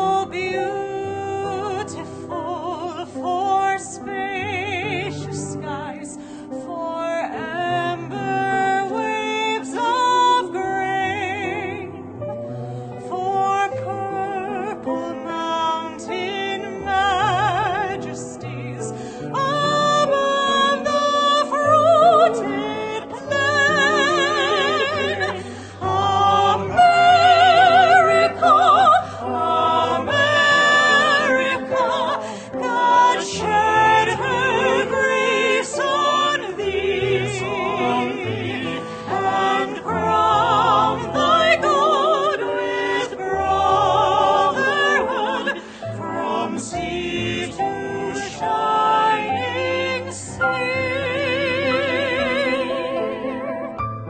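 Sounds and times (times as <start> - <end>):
classical singing with vibrato: 0.0 - 12.2, 12.9 - 54.0.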